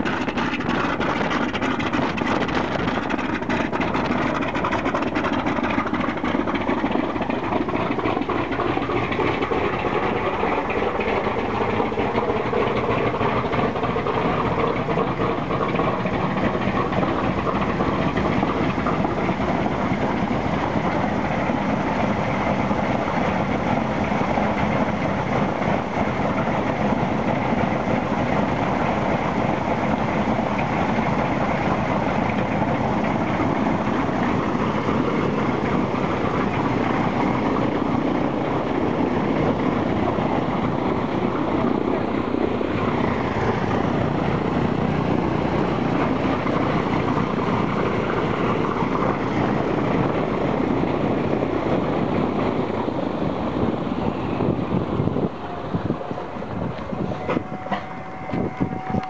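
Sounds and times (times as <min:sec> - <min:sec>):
radial piston engine running: 0:00.0 - 0:54.6.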